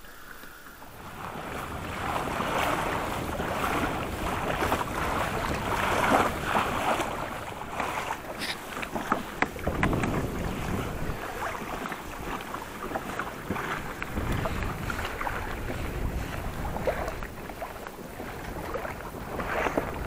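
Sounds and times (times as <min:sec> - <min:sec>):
water splashing against kayak hull: 0:00.0 - 0:20.0
wind buffeting microphone: 0:00.9 - 0:20.0.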